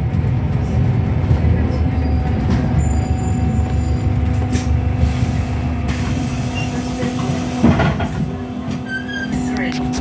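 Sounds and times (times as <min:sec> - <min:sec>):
bus drivetrain rumble: 0:00.0 - 0:10.0.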